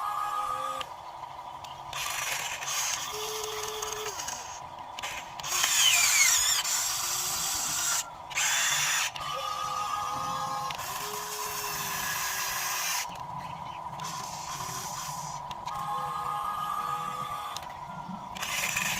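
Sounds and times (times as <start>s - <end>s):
model excavator motors whining: 0.0s - 1.0s, 1.6s - 18.9s.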